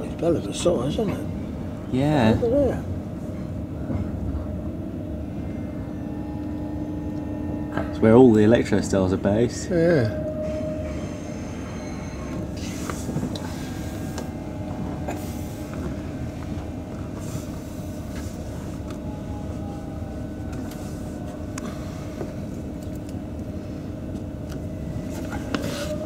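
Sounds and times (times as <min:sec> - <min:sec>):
electric train hum with held tone: 0:00.0 - 0:26.0.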